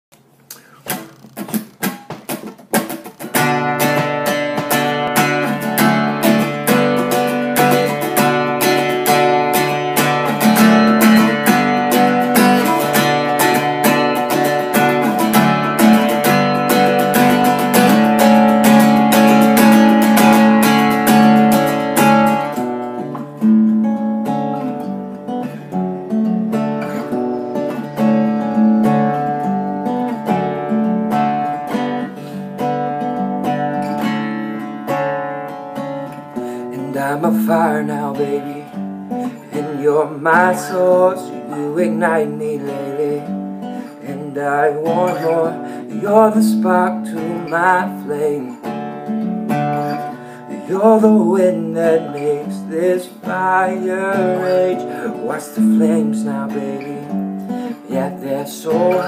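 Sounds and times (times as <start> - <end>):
acoustic guitar strumming: 0.3 - 59.0.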